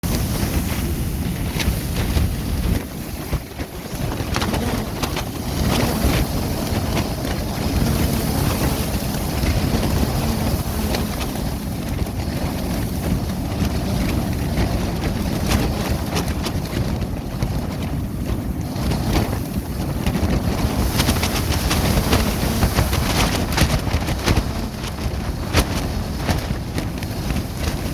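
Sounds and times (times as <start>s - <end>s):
plastic sheeting flapping: 0.0s - 27.9s
wind buffeting microphone: 0.0s - 27.9s.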